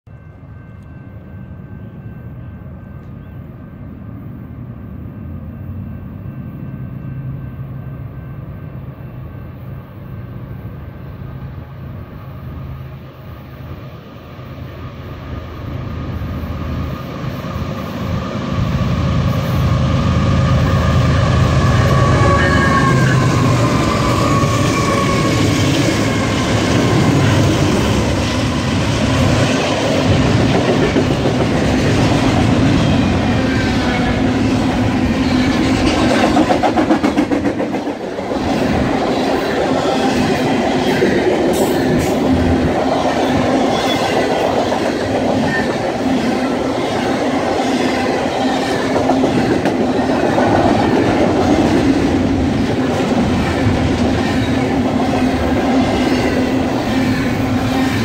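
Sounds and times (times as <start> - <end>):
diesel locomotives approaching: 0.0 - 58.0.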